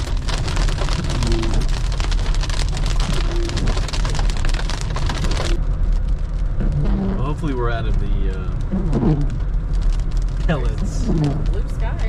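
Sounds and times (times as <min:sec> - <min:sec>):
car rumbling on road: 0:00.0 - 0:12.0
hail pelting a car: 0:00.0 - 0:12.0.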